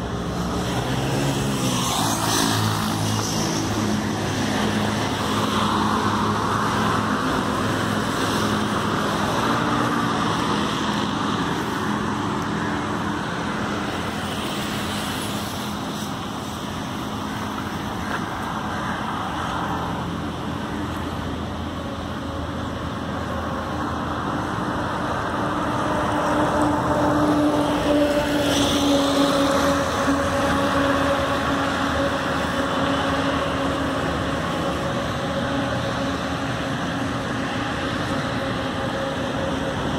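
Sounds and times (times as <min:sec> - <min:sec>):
highway traffic noise: 0:00.0 - 0:39.9.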